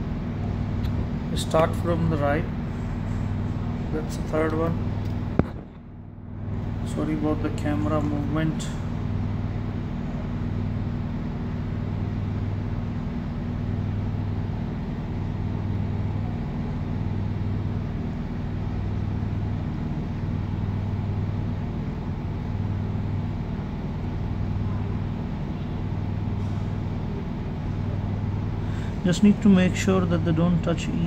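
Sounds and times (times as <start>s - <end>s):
low motor hum with throb: 0.0s - 31.0s.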